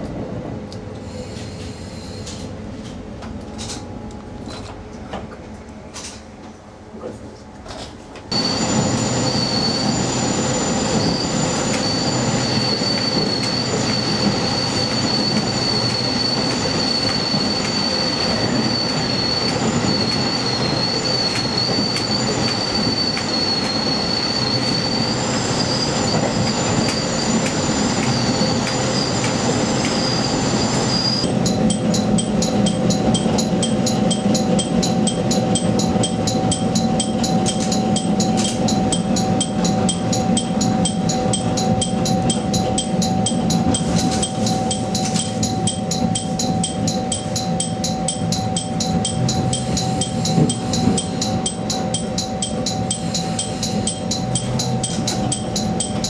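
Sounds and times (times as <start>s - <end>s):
railcar running gear rumble: 0.0s - 56.0s
train wheels squealing: 1.0s - 2.6s, 8.3s - 56.0s.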